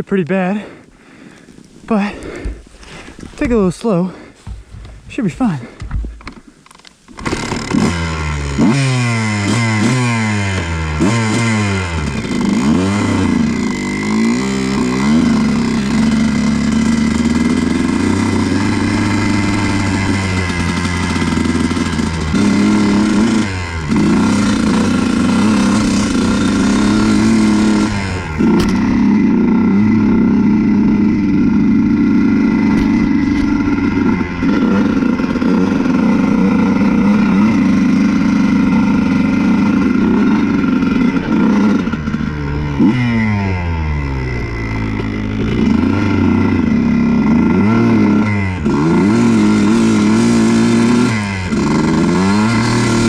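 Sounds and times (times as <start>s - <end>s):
dirt bike engine revving: 0.0s - 5.8s, 7.1s - 53.0s.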